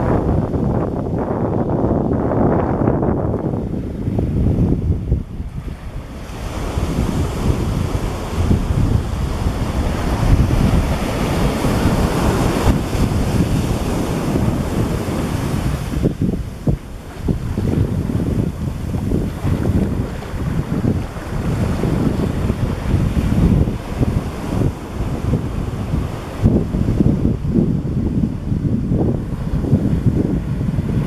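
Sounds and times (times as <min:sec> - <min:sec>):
wind buffeting microphone: 0:00.0 - 0:31.0
sea waves breaking on beach: 0:03.5 - 0:31.0.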